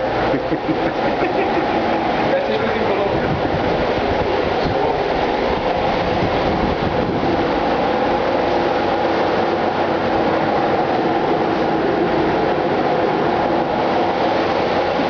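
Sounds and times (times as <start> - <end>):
ship engine machinery droning: 0.0 - 15.0.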